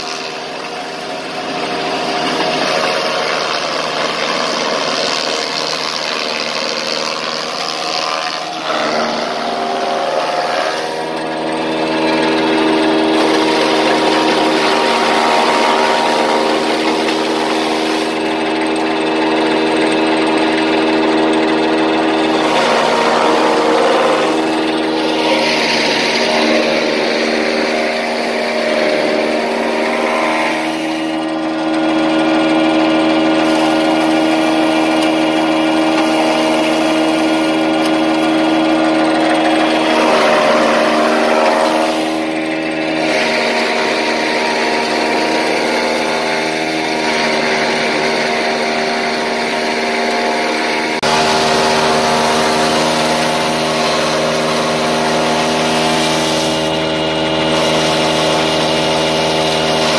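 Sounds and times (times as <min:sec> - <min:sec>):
forage chopper humming: 0:00.0 - 0:59.9
tractor engine: 0:00.0 - 0:59.9.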